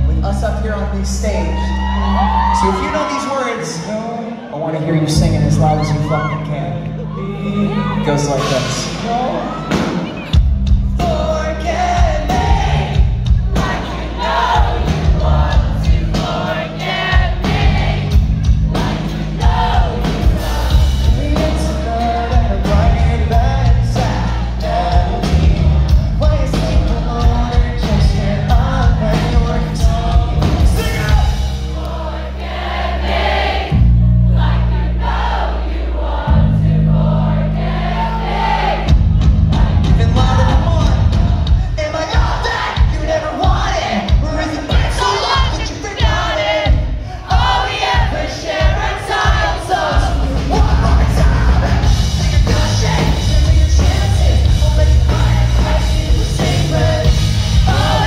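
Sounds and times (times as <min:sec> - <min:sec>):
lead vocal singing: 0:01.8 - 0:58.0
crowd singing along: 0:07.0 - 0:58.0
live pop-punk band: 0:07.1 - 0:35.3, 0:36.1 - 0:58.0.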